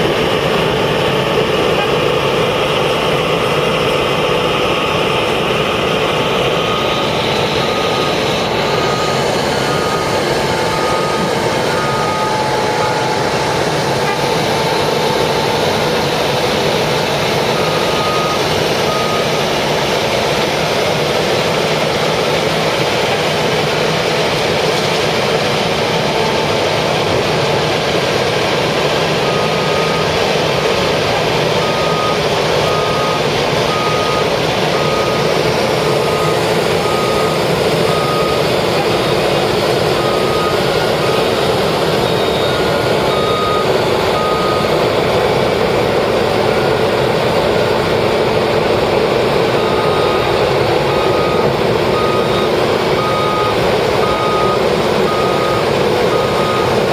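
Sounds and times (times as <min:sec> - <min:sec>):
road-paving machinery running: 0:00.0 - 0:56.9
reversing alarm beeping: 0:00.1 - 0:56.9.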